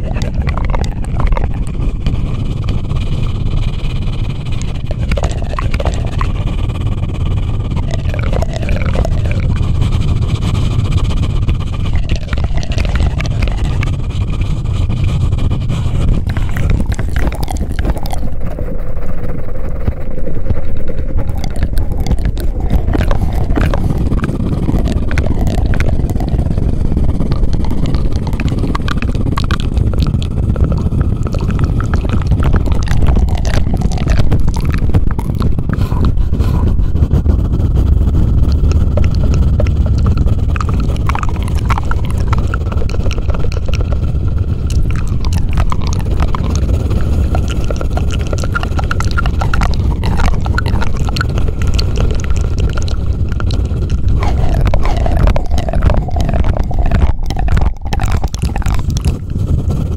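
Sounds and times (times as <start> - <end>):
scratchy scraping: 0.0 - 19.2, 19.8 - 59.9
microphone rubbed by hand: 0.0 - 59.9.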